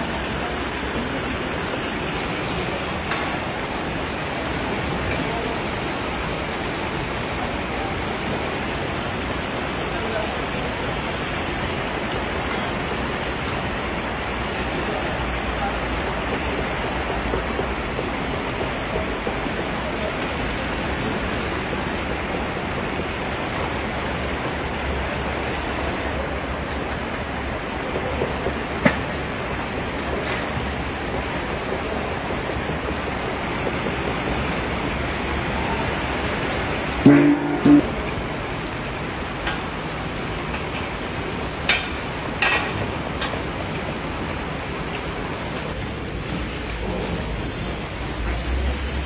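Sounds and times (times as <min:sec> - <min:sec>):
food sizzling in a cauldron: 0:00.0 - 0:44.2, 0:46.2 - 0:49.0.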